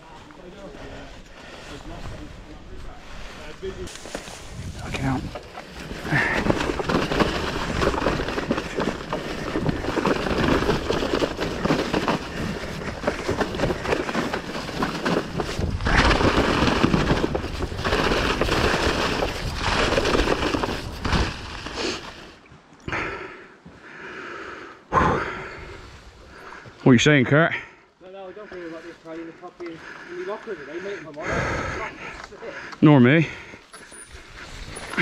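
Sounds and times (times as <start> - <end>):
bike clattering over rough trail: 0.2 - 23.2, 28.4 - 35.0.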